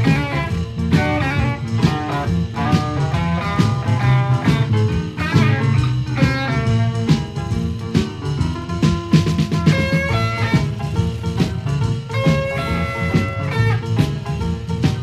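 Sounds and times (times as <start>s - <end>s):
blues rock guitar over bass and drums: 0.0s - 15.0s.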